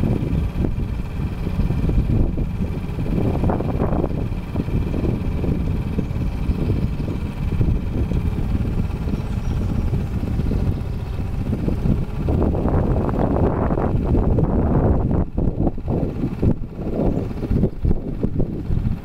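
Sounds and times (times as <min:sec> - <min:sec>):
outboard motor running: 0:00.0 - 0:19.0
wind buffeting on microphone: 0:00.0 - 0:19.0.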